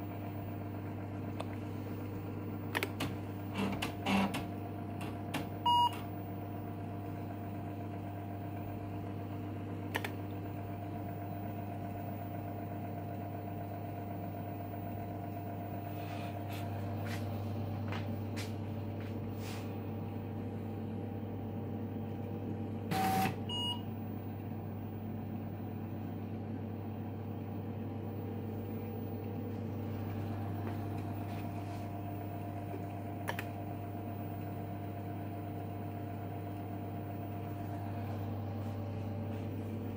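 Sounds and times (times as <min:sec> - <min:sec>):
computer and printer humming: 0:00.0 - 0:39.9.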